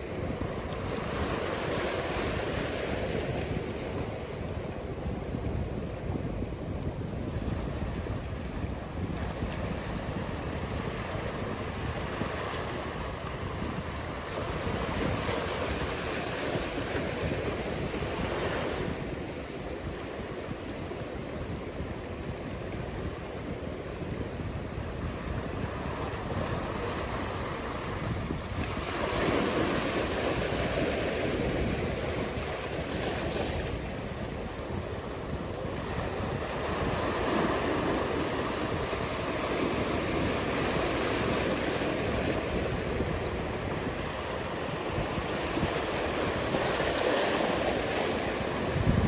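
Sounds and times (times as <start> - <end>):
waves breaking: 0.0 - 49.0.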